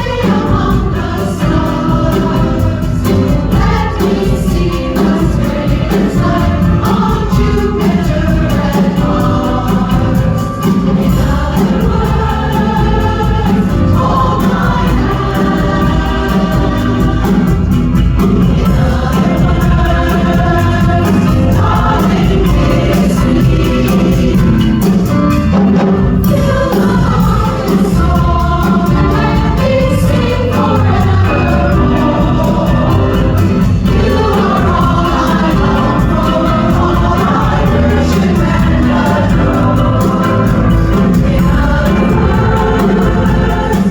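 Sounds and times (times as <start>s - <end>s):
instrumental accompaniment: 0.0s - 43.9s
women's chorus singing: 0.0s - 43.9s.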